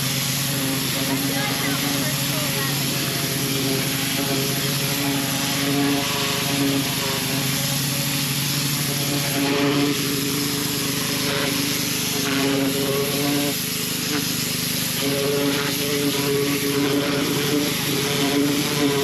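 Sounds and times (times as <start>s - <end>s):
pressure washer engine running: 0.0s - 19.0s
water jet hissing on wood: 0.0s - 19.0s.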